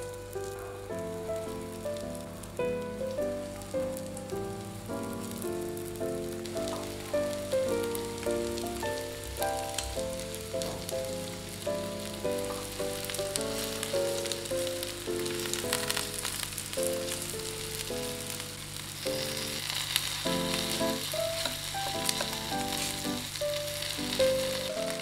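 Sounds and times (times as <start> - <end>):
chicken sizzling in a pan: 0.0 - 25.0
light background melody: 0.0 - 25.0.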